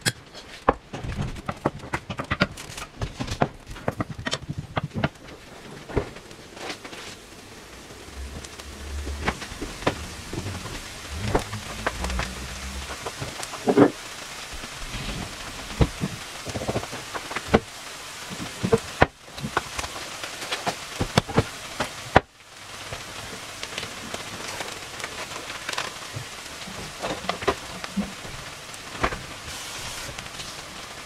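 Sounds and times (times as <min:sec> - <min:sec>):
onions sizzling in a frying pan: 0:03.9 - 0:31.0.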